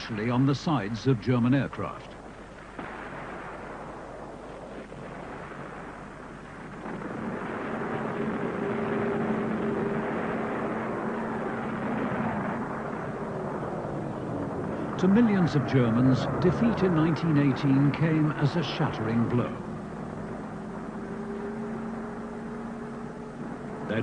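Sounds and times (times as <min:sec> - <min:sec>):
dense rumbling noise: 0:00.0 - 0:24.0
propeller aircraft engine drone: 0:03.5 - 0:24.0.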